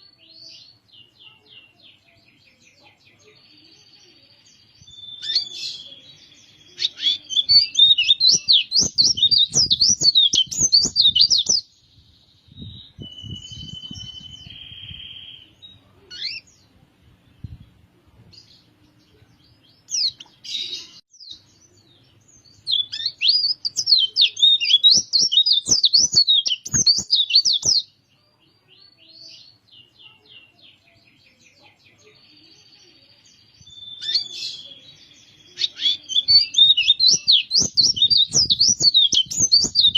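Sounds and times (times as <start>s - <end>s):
bird chirps: 0.0s - 16.7s, 18.5s - 39.9s.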